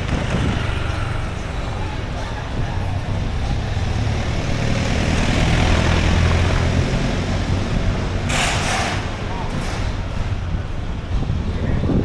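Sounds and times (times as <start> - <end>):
vehicle engine passing by: 0.0 - 10.6.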